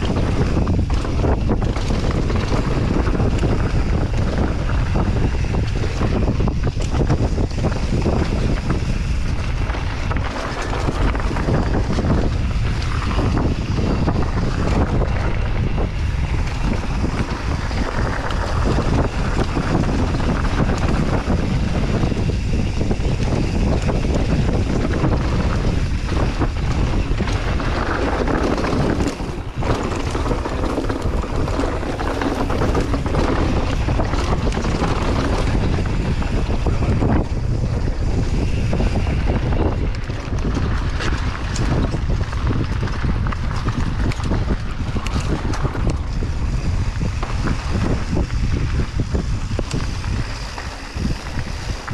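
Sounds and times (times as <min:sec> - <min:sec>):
bike knocks and rattles: 0:00.0 - 0:51.9
bike tyres rumbling on dirt: 0:00.0 - 0:51.9
wind rushing over microphone: 0:00.0 - 0:51.9.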